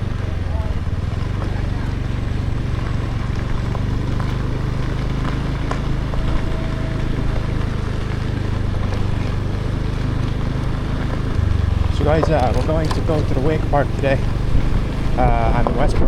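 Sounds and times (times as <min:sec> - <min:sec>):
motorbike engine running: 0:00.0 - 0:16.0
wind and road noise: 0:00.0 - 0:16.0.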